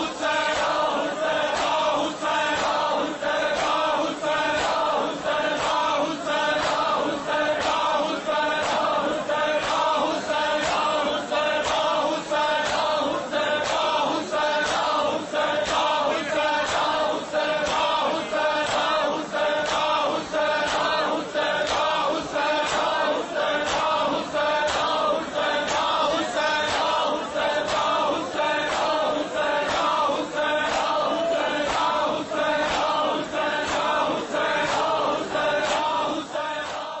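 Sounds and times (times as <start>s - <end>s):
men chanting in unison: 0.0s - 37.0s
sharp rhythmic beats: 0.0s - 37.0s.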